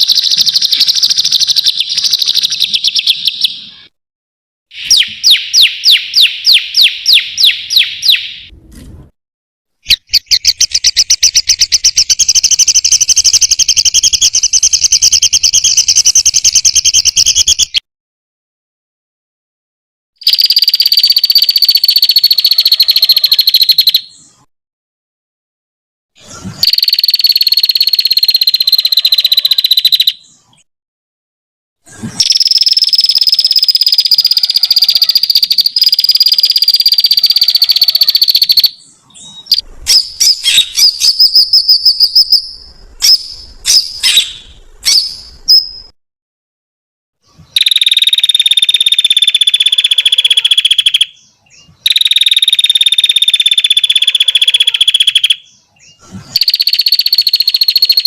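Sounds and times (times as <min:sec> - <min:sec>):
rapid bird chirping: 0:00.0 - 0:03.9, 0:04.7 - 0:08.5, 0:09.8 - 0:17.9, 0:20.2 - 0:24.4, 0:26.6 - 0:30.6, 0:32.2 - 0:45.9, 0:47.3 - 0:58.0.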